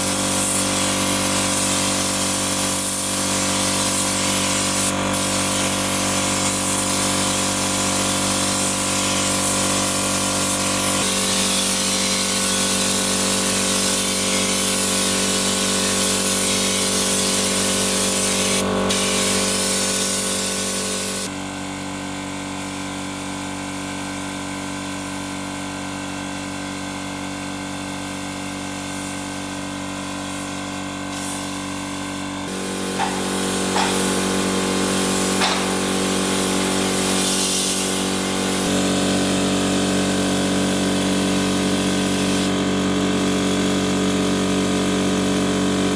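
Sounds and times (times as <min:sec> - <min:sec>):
power tool hissing over motor hum: 0:00.0 - 0:45.9.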